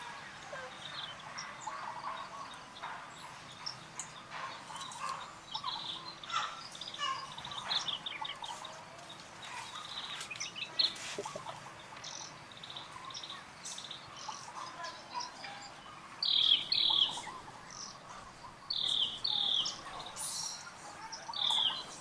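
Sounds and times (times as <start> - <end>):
birds chirping and trilling: 0.0 - 22.0
faint outdoor hiss: 0.0 - 22.0.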